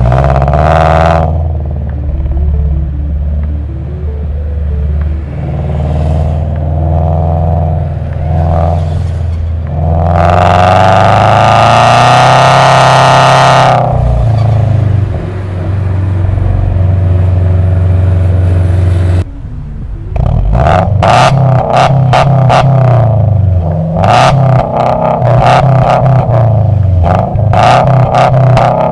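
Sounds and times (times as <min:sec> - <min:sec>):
car engine accelerating and cruising: 0:00.0 - 0:28.9.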